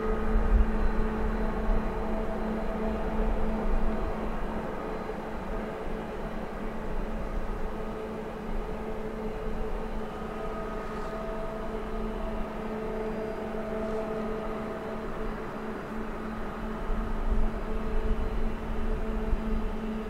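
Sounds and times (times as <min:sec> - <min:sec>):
diesel locomotive engines droning: 0:00.0 - 0:20.0.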